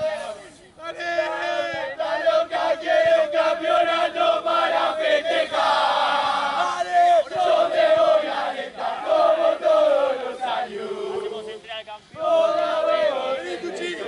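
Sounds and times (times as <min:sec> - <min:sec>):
group of voices chanting: 0:00.0 - 0:11.4, 0:12.2 - 0:14.0.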